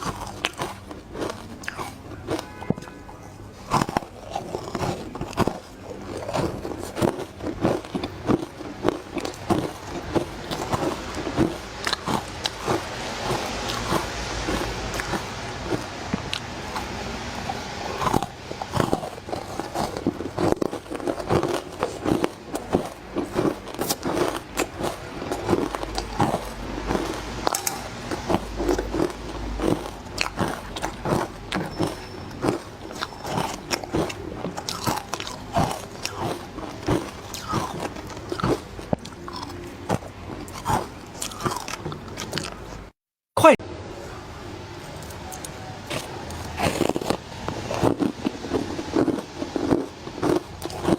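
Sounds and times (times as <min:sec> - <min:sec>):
crunching ice: 0:00.0 - 0:42.8, 0:44.9 - 0:50.9.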